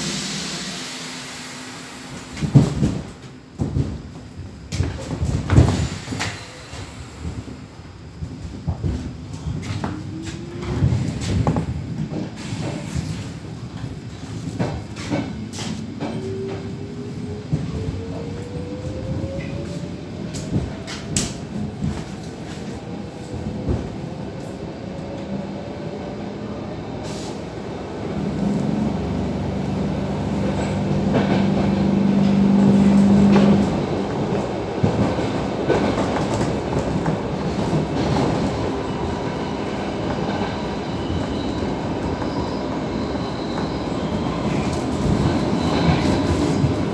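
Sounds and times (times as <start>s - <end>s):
train running noise: 0.0s - 46.9s.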